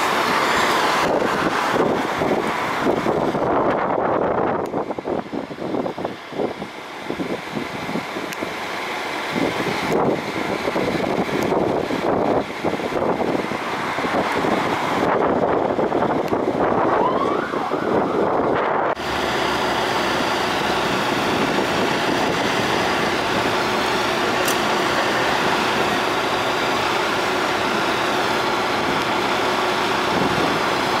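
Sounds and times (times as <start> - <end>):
fire engine sirens: 0.0 - 31.0
truck diesel engines: 0.0 - 31.0.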